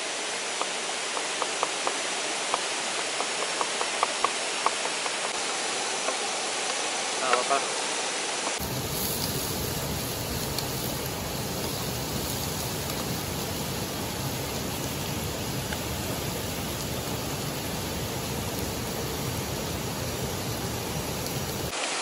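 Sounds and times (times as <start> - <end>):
river water and waterfall roar: 0.0 - 22.0.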